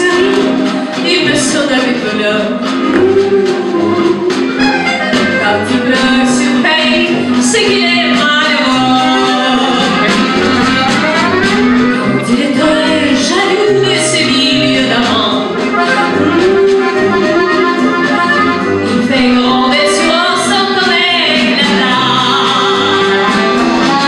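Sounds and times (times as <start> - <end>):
woman singing: 0.0 - 11.1, 11.9 - 17.2, 18.8 - 24.0
accordions playing: 0.0 - 24.0
sousaphone bass notes: 2.7 - 24.0.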